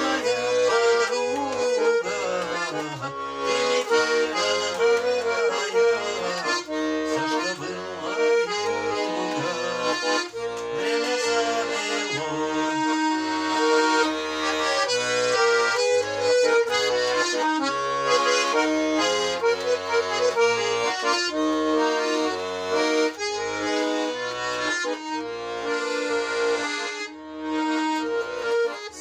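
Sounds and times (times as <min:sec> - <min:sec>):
instrumental melody with accompaniment: 0:00.0 - 0:29.0.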